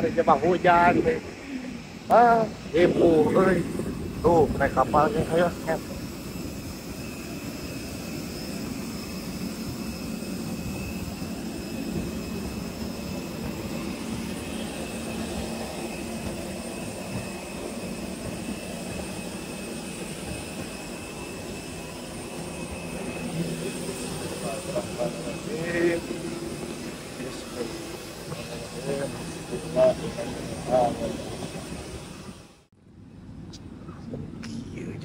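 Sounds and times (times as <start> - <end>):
jet turbine whine and roar: 0.0 - 35.0.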